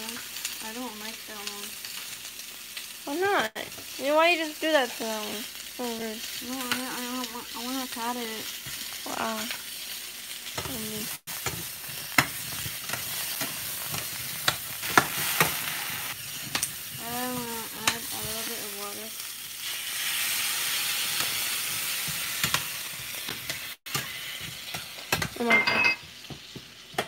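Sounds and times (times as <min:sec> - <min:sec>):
vegetables sizzling in frying pan: 0:00.0 - 0:27.0.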